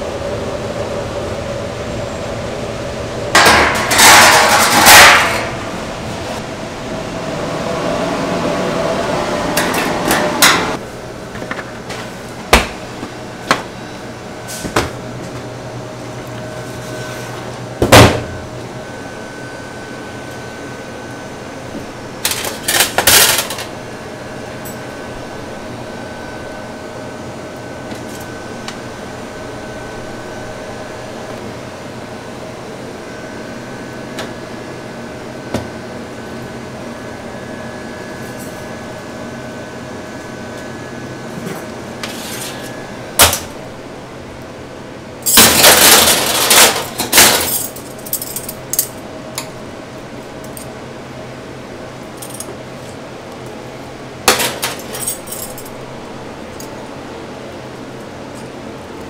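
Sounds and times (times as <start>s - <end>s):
steady fan hum: 0.0s - 59.0s.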